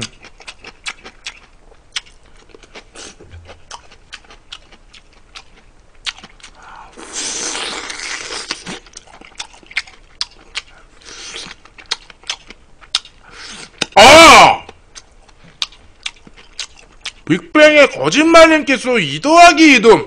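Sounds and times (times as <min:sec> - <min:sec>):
man chewing with wet smacking: 0:00.0 - 0:14.0, 0:14.7 - 0:17.3.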